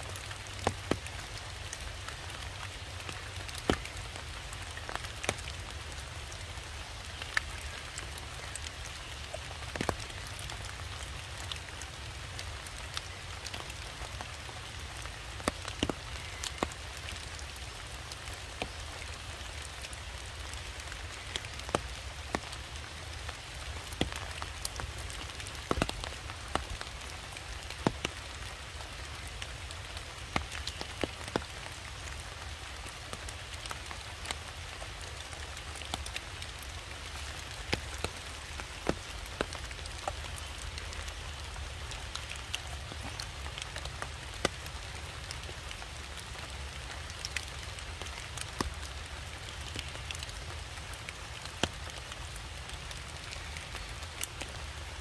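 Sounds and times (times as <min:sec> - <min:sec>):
rain pattering: 0:00.0 - 0:55.0
sharp raindrops landing: 0:00.0 - 0:55.0.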